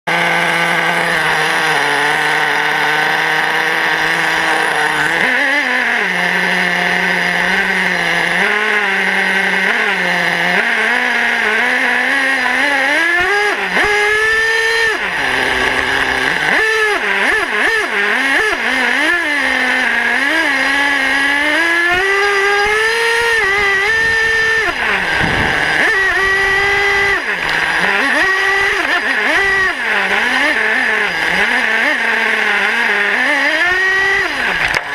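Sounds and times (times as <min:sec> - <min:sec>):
toy truck motor revving: 0:00.1 - 0:34.9.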